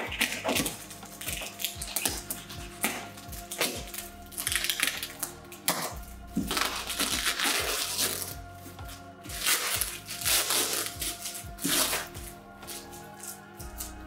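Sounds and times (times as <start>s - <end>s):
plastic wrap crinkling and tearing: 0.0s - 8.4s, 9.3s - 14.0s
background music: 0.0s - 14.0s.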